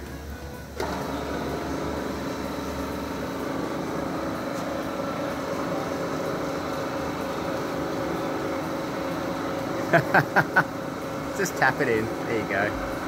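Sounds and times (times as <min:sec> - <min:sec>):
hydraulic pump humming: 0:00.0 - 0:13.0.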